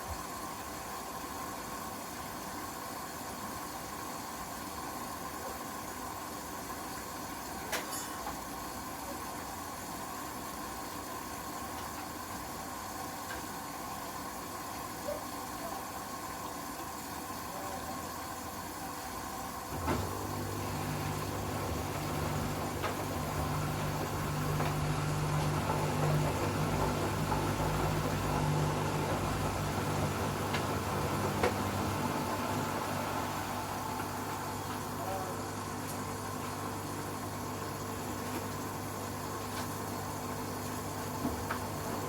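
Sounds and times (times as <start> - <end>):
drain pump humming: 0.0 - 42.0
washing machine running: 0.0 - 42.0.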